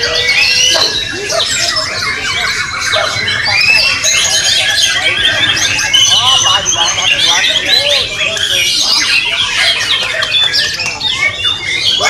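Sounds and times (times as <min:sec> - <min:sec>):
birds singing whistles and chirps: 0:00.0 - 0:12.0.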